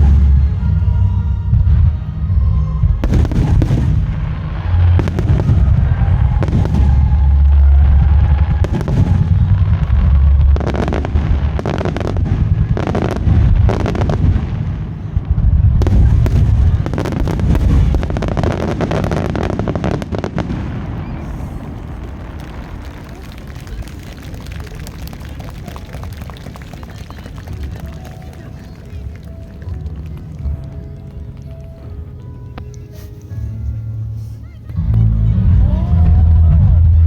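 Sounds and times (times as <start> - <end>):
fireworks booming and crackling: 0.0 - 33.5.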